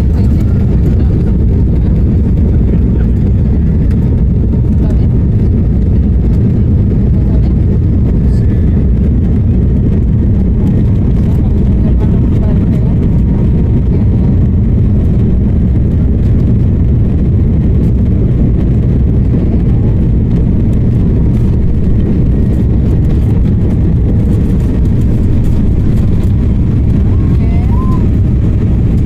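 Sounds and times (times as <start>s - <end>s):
airflow: 0.0s - 29.0s
jet engines rumbling in cabin: 0.0s - 29.0s.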